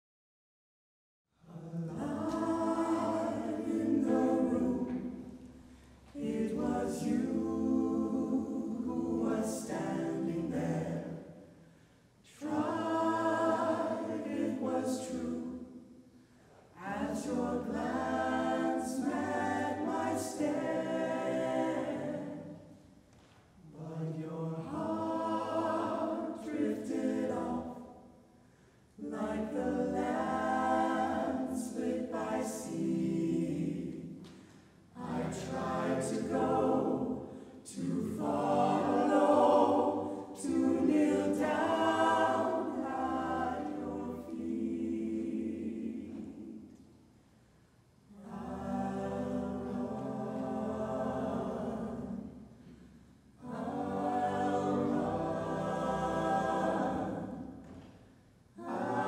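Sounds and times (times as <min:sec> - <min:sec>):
mixed choir singing a cappella: 0:01.4 - 0:47.0, 0:48.1 - 0:59.0.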